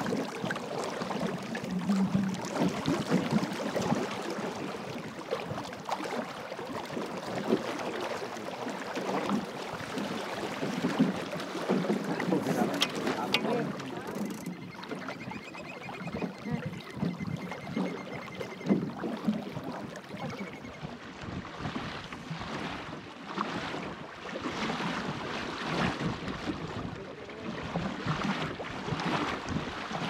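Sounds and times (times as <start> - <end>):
water splashing along hull: 0.0 - 30.0.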